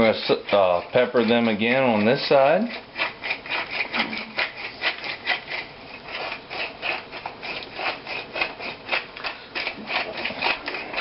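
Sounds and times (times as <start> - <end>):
pepper mill grinding: 0.0 - 11.0.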